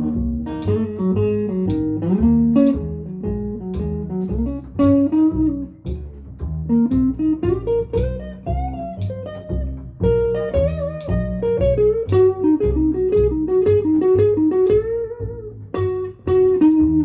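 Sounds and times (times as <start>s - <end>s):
blues guitar with bent notes: 0.0s - 17.0s
pulsing bass line: 0.0s - 17.0s.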